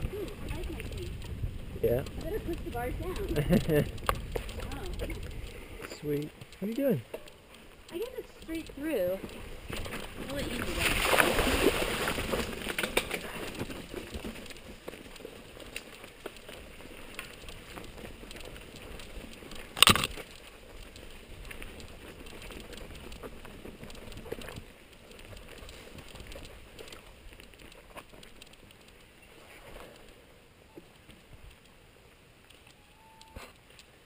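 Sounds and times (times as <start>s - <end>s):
tyres crunching over stones: 0.0s - 30.1s
bike rattling: 0.0s - 30.3s.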